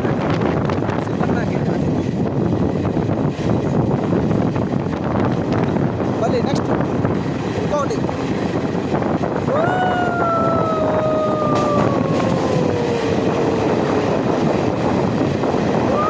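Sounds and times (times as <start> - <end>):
passenger train running: 0.0 - 16.0
wind on microphone: 0.0 - 16.0.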